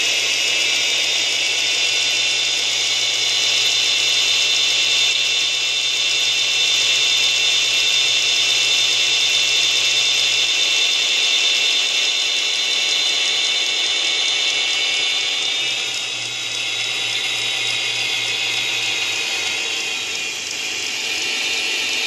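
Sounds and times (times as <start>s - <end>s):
hissy locomotive running sound: 0.0s - 22.0s.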